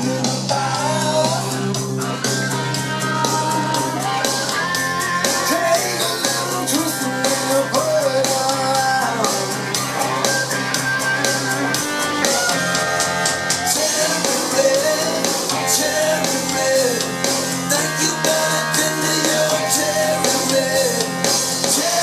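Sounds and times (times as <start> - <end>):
rock song with male singing: 0.0 - 22.0.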